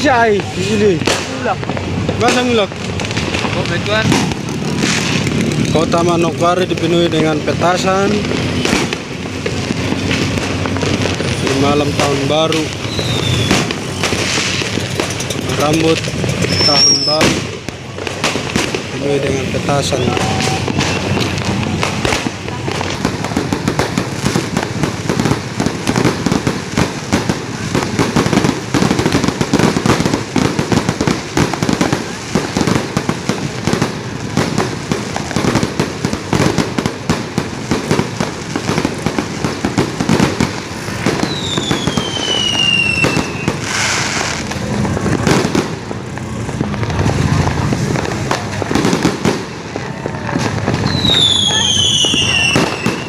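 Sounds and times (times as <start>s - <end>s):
whistling firework: 0.0s - 7.0s, 7.6s - 53.0s
firecrackers crackling and banging: 0.0s - 53.0s.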